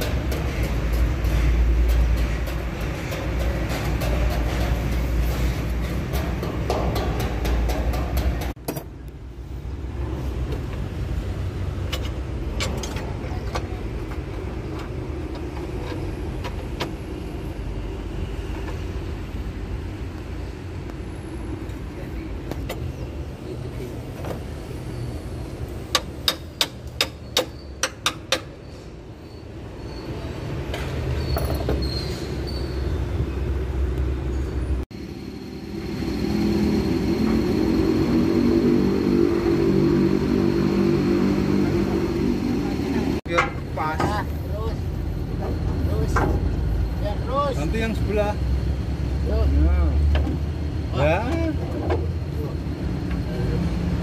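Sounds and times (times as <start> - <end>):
truck engine rumbling: 0.0 - 54.0.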